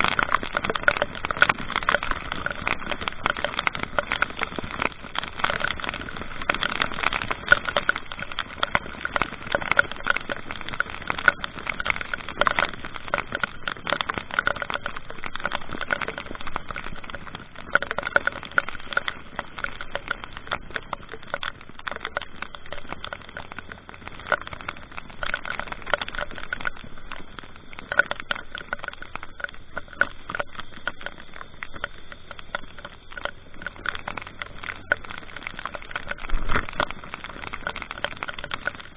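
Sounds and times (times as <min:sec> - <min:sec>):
faint road rumble: 0:00.0 - 0:38.9
rain and wind on microphone: 0:00.0 - 0:38.9.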